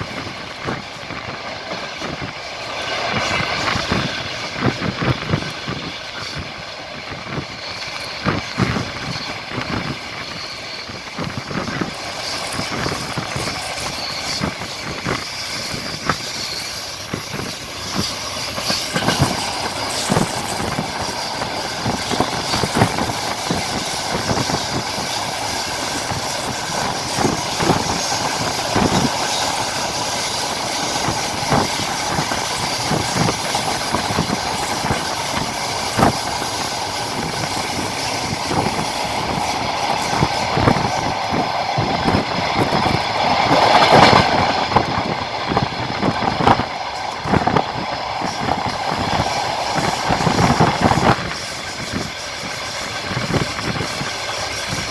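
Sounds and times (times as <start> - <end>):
train wheels knocking over rail joints: 0.0 - 54.9.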